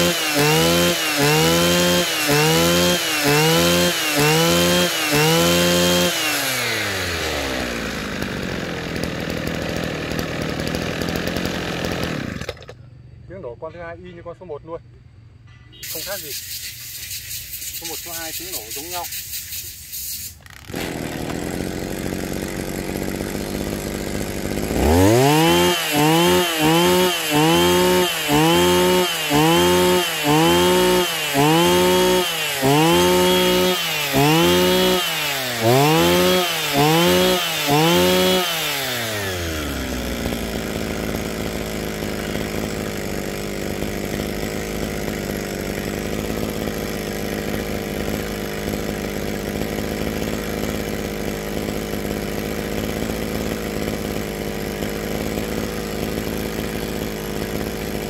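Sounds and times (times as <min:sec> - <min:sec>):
brush cutter engine revving: 0:00.0 - 0:13.0, 0:15.8 - 0:58.0.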